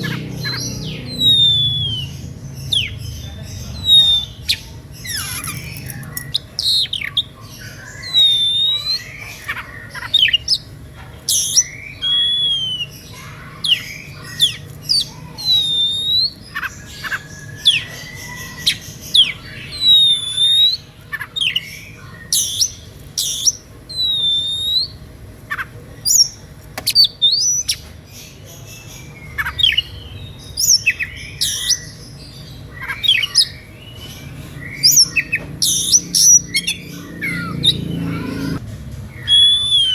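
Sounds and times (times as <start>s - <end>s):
bird singing whistled song: 0.0s - 3.1s, 3.7s - 10.7s, 11.3s - 25.0s, 26.0s - 27.9s, 29.0s - 32.0s, 34.6s - 38.5s, 39.1s - 39.9s.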